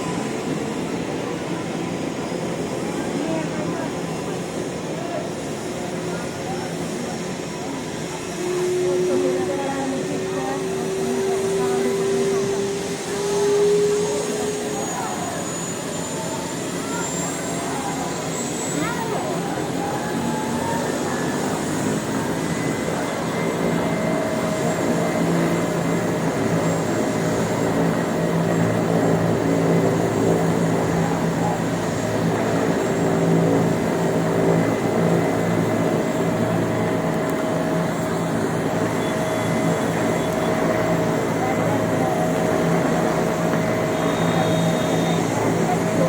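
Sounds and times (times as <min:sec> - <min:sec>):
helicopter engine and rotor: 0:00.0 - 0:46.0.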